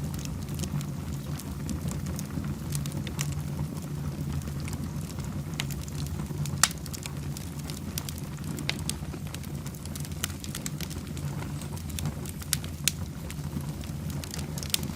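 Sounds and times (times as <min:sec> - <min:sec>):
fireplace fire crackling: 0:00.0 - 0:14.9.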